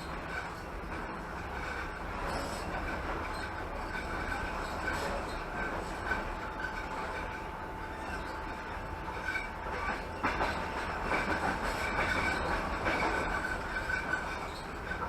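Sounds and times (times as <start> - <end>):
clicks of train wheels: 0.0 - 15.0
train wheels rolling on rails: 0.0 - 15.0.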